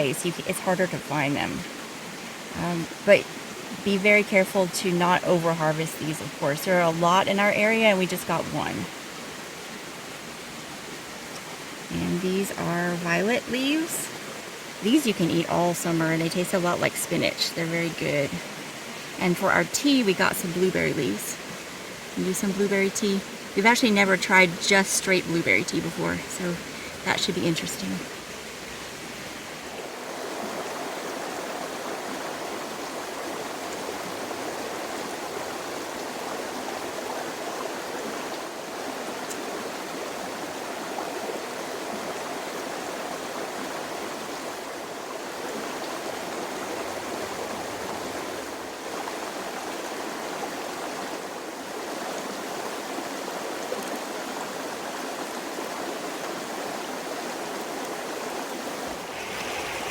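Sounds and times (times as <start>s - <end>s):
creek water flowing: 0.0s - 59.9s.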